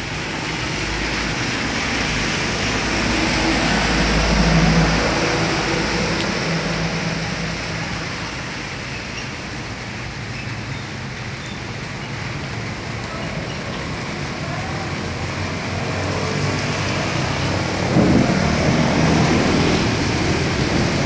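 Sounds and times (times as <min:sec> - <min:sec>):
rain hissing: 0:00.0 - 0:21.0
truck driving past on wet road: 0:00.0 - 0:21.0.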